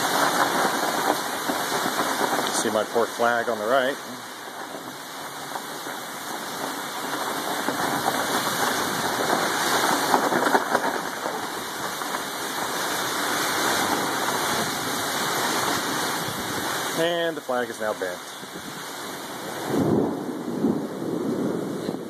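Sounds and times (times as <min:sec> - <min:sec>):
heavy rain: 0:00.0 - 0:22.0
storm wind gusting: 0:00.0 - 0:22.0.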